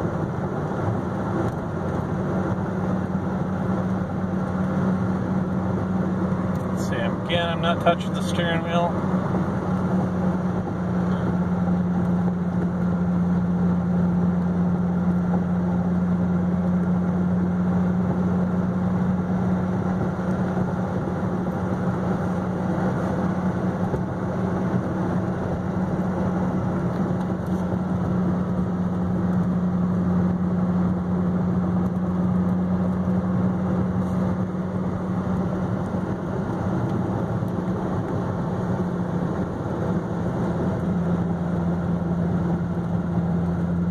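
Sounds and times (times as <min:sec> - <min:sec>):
car engine droning: 0:00.0 - 0:43.9
tyre and road noise: 0:00.0 - 0:43.9.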